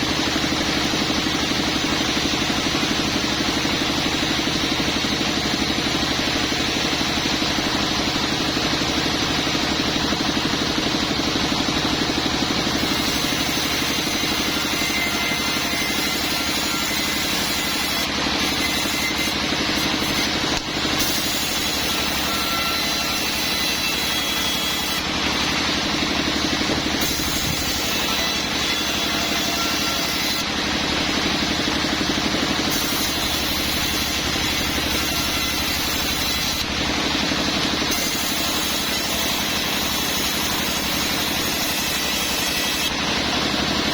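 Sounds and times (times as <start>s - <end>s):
sawmill engine pulsing: 0.0s - 43.9s.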